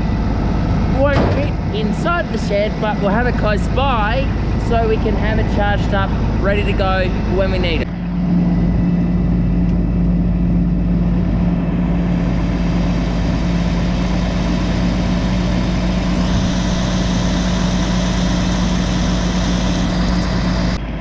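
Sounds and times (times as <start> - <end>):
tractor diesel engine idling: 0.0 - 21.0.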